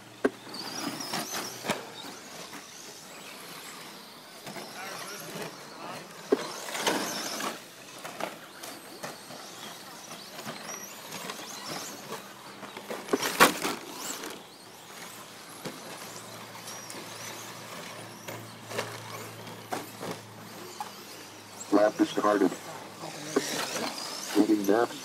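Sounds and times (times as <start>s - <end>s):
radio-controlled trucks racing: 0.0s - 25.0s.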